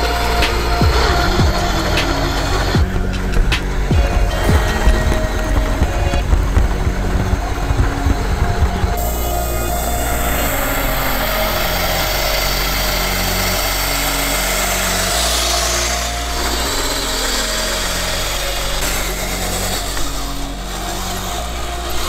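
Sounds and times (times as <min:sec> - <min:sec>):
electric motor whirring: 0:00.0 - 0:22.0.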